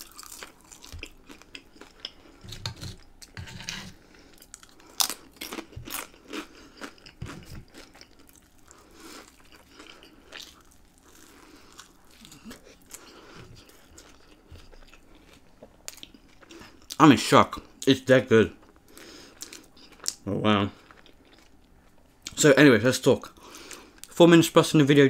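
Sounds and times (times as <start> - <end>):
crunchy chewing: 0.0 - 17.0, 18.6 - 22.1.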